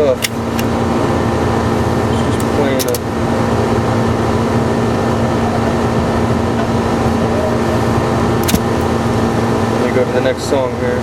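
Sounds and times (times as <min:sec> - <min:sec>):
car engine idling: 0:00.0 - 0:11.0
heater blower fan: 0:00.0 - 0:11.0.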